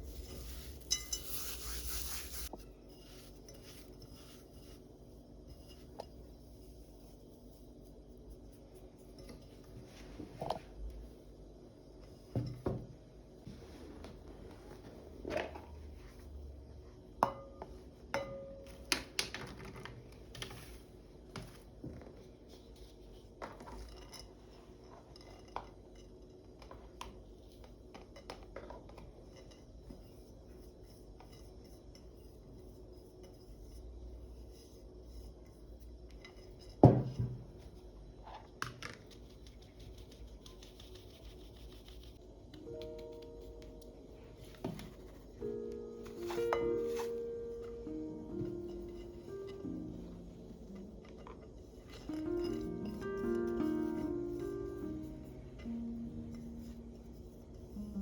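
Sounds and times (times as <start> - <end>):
low steady hum: 0.0 - 38.2, 39.2 - 58.0.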